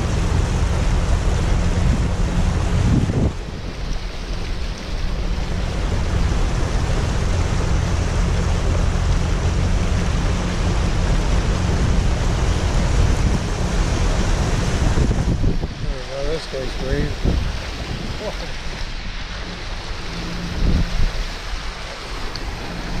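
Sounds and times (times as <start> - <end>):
floodwater churning: 0.0 - 23.0
truck driving through water: 0.0 - 23.0
wind buffeting microphone: 0.0 - 23.0.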